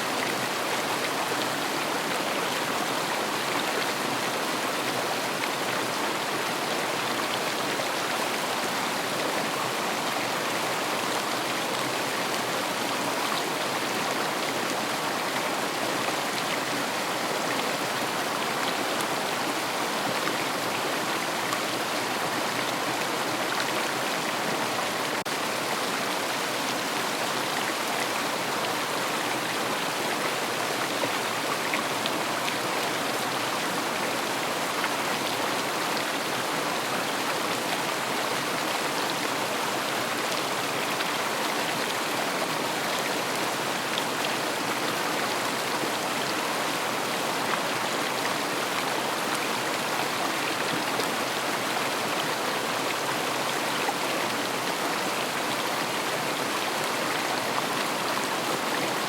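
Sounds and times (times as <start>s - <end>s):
river rushing over stones: 0.0s - 59.0s.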